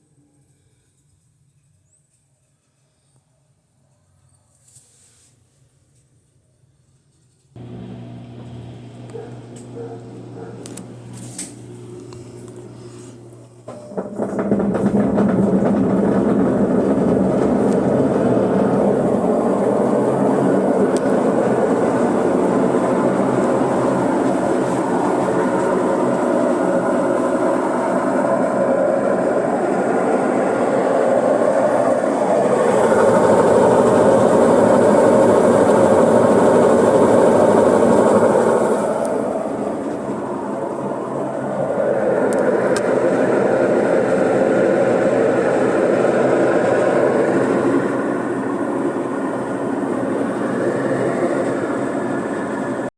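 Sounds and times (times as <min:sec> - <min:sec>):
washing machine spinning: 0:07.6 - 0:52.9.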